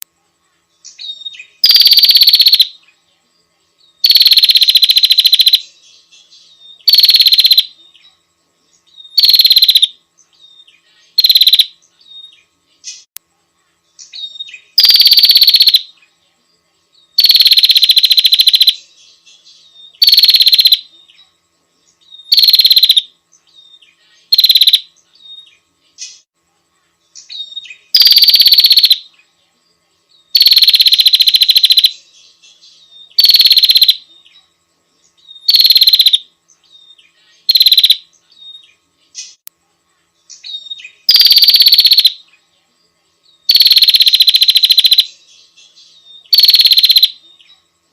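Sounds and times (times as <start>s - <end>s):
bird buzzy trills: 0.6s - 47.9s.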